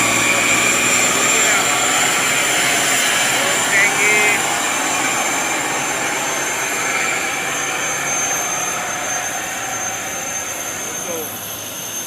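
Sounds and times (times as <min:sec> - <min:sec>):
diesel machinery roaring: 0:00.0 - 0:12.0
thin high whine: 0:00.0 - 0:12.0.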